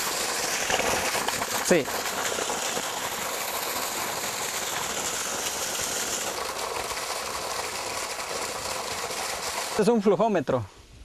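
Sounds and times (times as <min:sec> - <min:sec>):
water gushing from pipe: 0:00.0 - 0:10.3.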